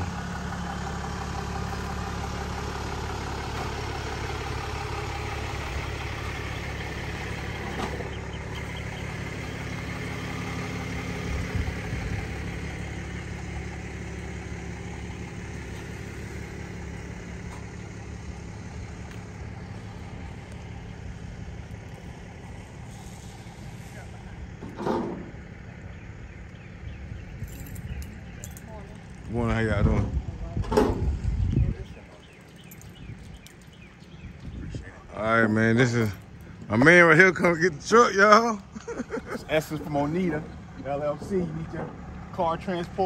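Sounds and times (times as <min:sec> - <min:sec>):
pickup truck engine idling: 0:00.0 - 0:43.0.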